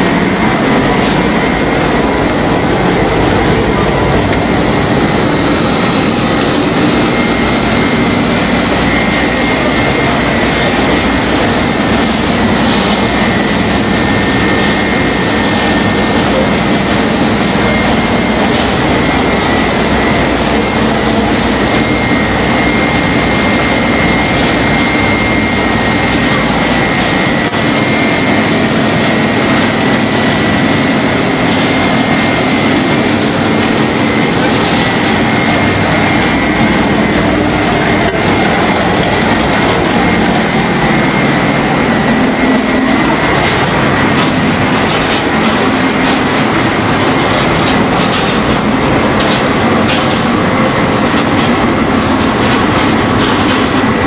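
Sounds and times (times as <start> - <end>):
blower fans rushing air: 0.0 - 54.0
low hum: 0.0 - 54.0
thin high whine: 0.0 - 54.0.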